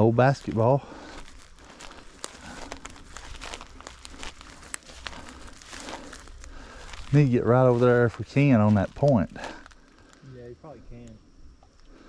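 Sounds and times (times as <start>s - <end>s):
rustling and crackling: 0.0s - 11.1s.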